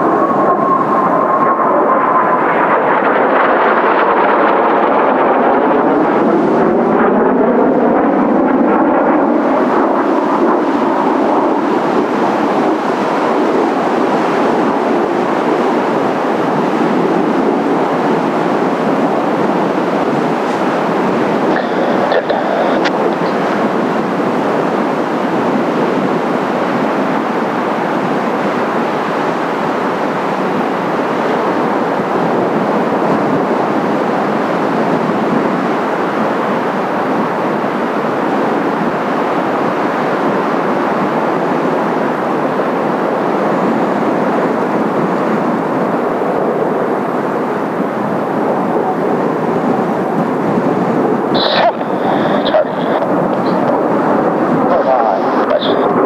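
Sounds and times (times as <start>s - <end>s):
jet roar: 0.0s - 56.0s
strong wind: 0.0s - 56.0s
surf: 0.0s - 56.0s.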